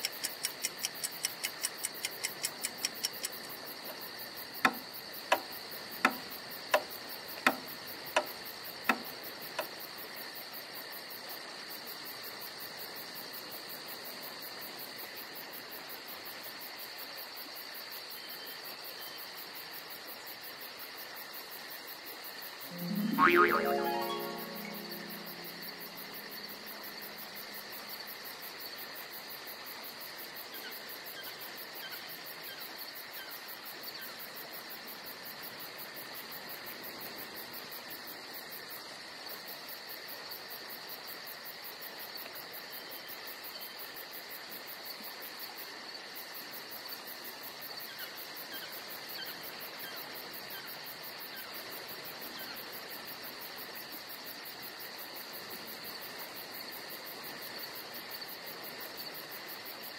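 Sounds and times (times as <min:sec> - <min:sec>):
crickets trilling: 0:00.0 - 0:23.1, 0:23.7 - 0:59.9.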